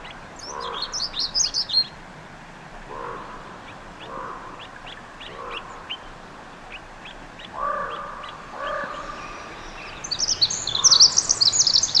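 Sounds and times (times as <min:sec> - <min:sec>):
birds chirping: 0:00.0 - 0:02.0, 0:02.8 - 0:12.0
loud rapid high birdsong: 0:00.0 - 0:02.0, 0:02.7 - 0:12.0
lower bird call: 0:00.0 - 0:02.0, 0:02.9 - 0:12.0.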